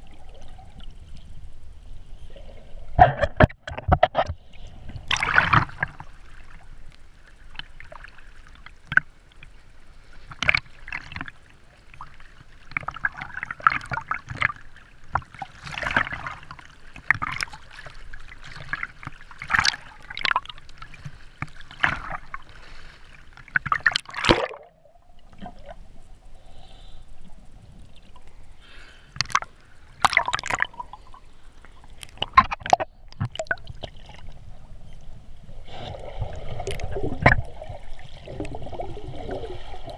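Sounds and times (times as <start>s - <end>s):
water gurgling: 0.0s - 9.5s, 10.4s - 22.5s, 23.4s - 26.3s, 27.3s - 39.9s
sea water splashing: 2.4s - 27.0s, 28.3s - 34.8s, 35.4s - 39.9s.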